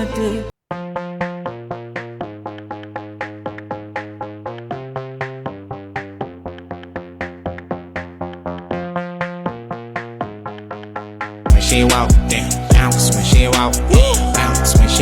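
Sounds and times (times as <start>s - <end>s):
synthesizer chords: 0.0s - 15.0s.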